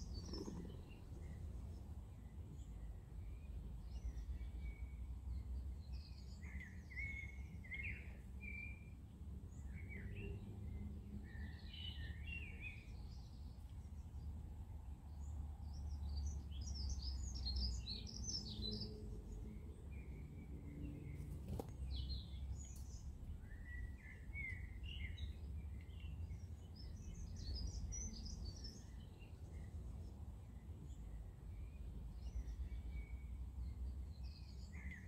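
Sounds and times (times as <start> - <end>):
low steady outdoor rumble: 0.0 - 35.0
small birds chirping: 0.0 - 35.0.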